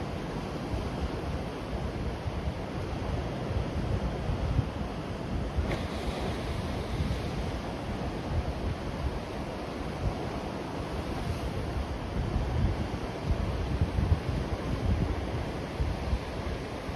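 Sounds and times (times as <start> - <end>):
wind gusting on microphone: 0.0 - 16.9.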